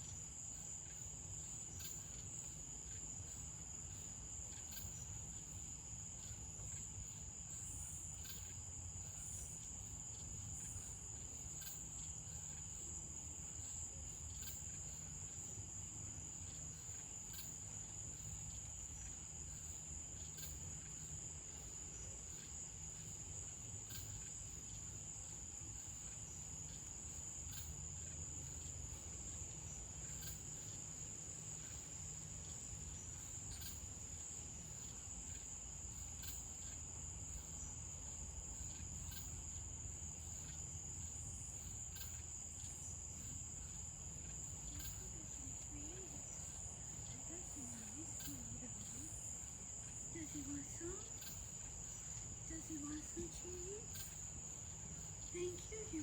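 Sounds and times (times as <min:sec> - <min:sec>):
crickets trilling: 0:00.0 - 0:56.0
faint ticks: 0:00.0 - 0:56.0.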